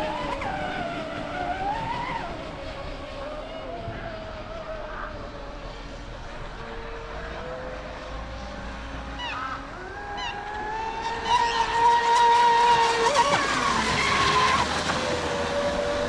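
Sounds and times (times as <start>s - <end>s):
rc boat motors whining: 0.0s - 16.0s.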